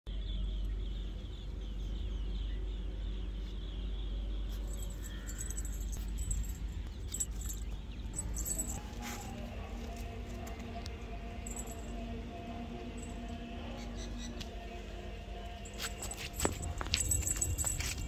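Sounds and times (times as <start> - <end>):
birds chirping: 0.1 - 18.0
low steady rumble: 0.1 - 18.0.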